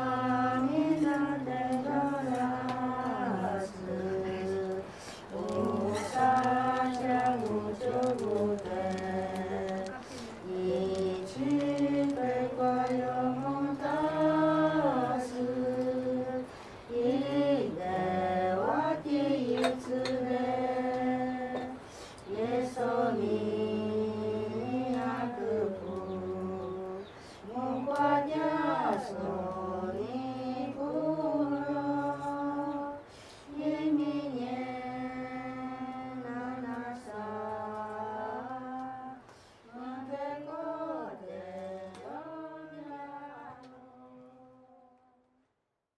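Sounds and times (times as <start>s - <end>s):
group singing a hymn: 0.0s - 45.0s.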